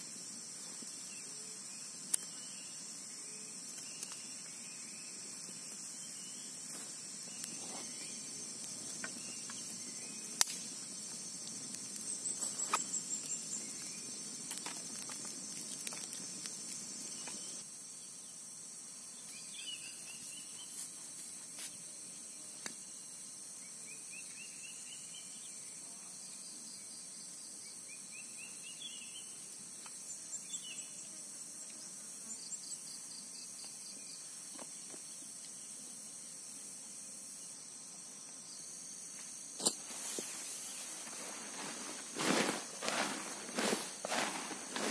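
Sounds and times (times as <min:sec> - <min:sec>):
insects chorus: 0:00.0 - 0:44.9.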